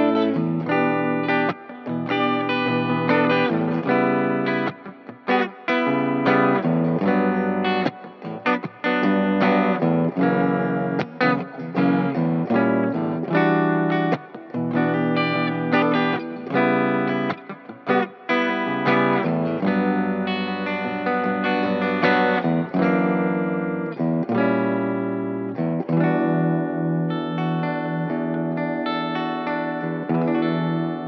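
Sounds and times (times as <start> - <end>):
distorted electric guitar: 0.0 - 31.0.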